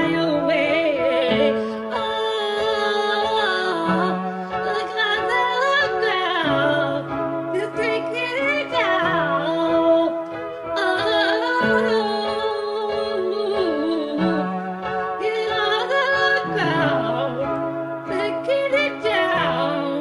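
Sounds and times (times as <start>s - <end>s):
backing track: 0.0s - 20.0s
woman singing karaoke: 0.0s - 20.0s.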